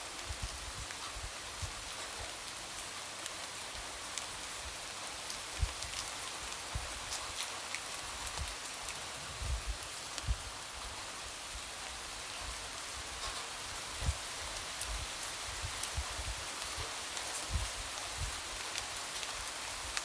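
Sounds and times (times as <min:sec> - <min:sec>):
light rain falling: 0:00.0 - 0:20.0.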